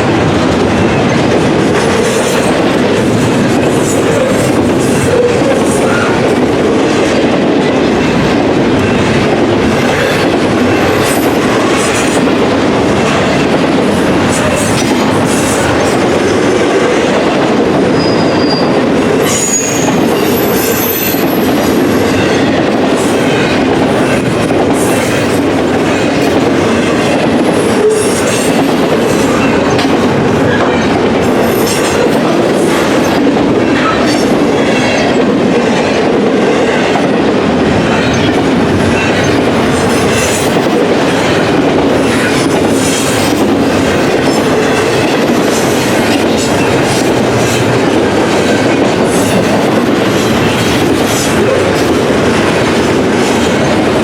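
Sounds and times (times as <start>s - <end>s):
freight train rumbling past: 0.0s - 54.0s
train wheels clicking over rail joints: 0.0s - 54.0s.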